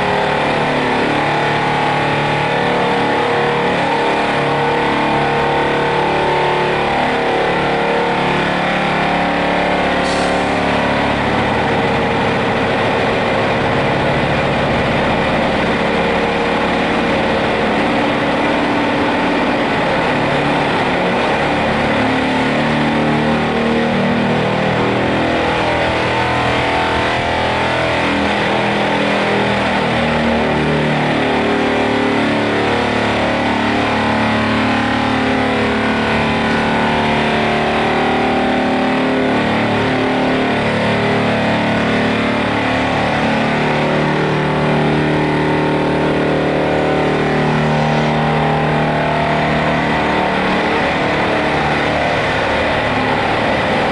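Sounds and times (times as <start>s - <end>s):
heavy machinery engines running: 0.0s - 53.9s.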